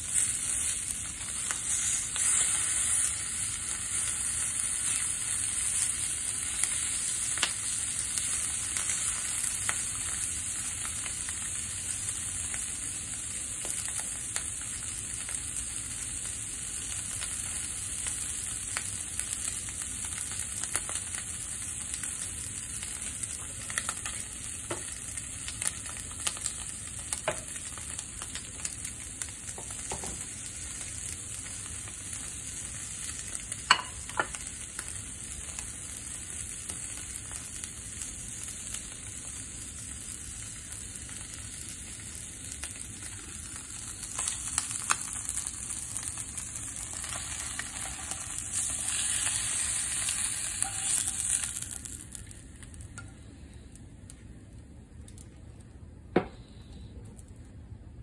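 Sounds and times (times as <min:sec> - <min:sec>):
meat and egg sizzling in pan: 0:00.0 - 0:54.4.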